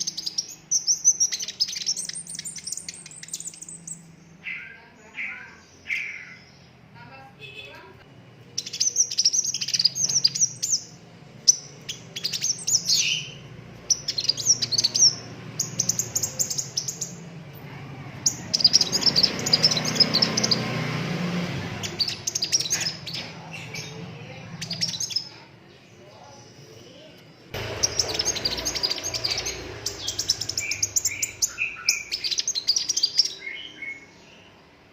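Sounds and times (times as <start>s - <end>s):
bird chirping and trilling: 0.0s - 26.9s, 27.5s - 34.8s.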